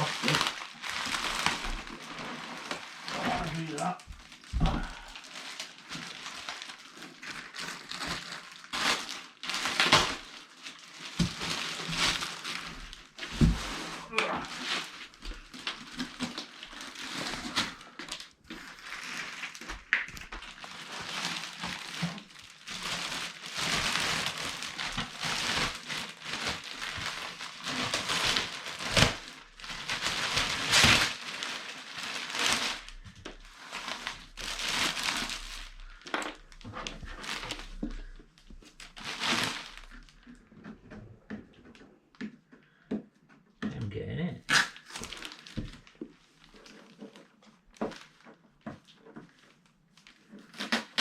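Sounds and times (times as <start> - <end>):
plastic and foam packaging crinkling: 0.0 - 42.9, 43.8 - 51.0.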